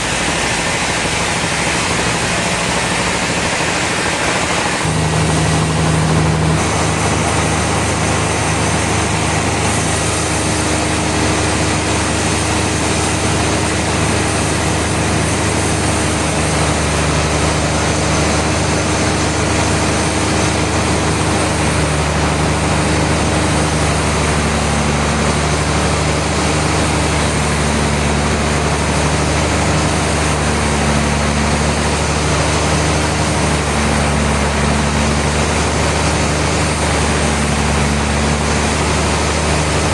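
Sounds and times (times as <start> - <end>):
low engine hum: 0.0 - 39.9
sawmill machinery noise: 0.0 - 39.9.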